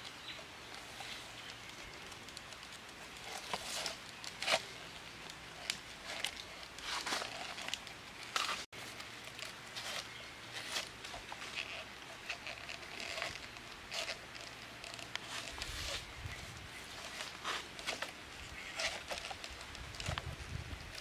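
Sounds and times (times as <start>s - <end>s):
bamboo strips clicking and rustling: 0.0s - 21.0s.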